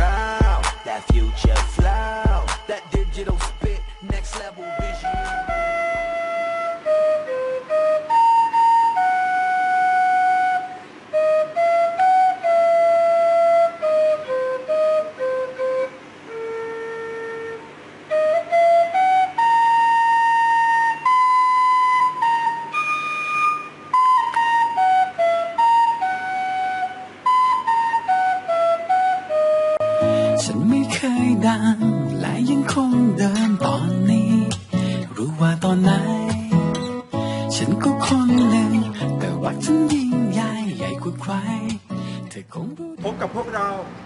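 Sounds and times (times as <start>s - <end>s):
duct flute melody: 0.0s - 34.6s, 35.2s - 41.8s.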